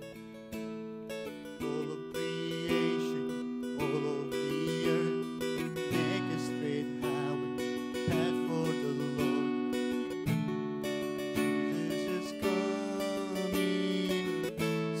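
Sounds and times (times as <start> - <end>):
acoustic guitar strumming chords: 0.0 - 15.0
man singing: 1.2 - 15.0.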